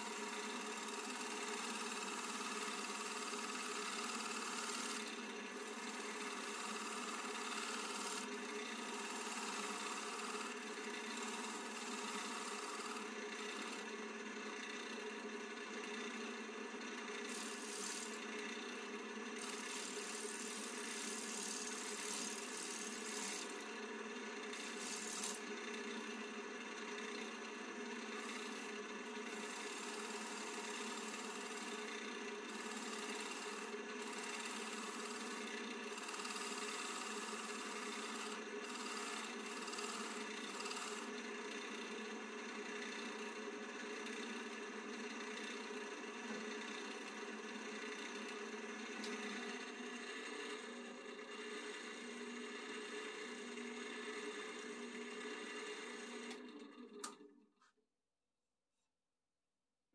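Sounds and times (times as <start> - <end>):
lathe tool scraping wood: 0.0 - 56.4
lathe motor hum: 0.0 - 57.2.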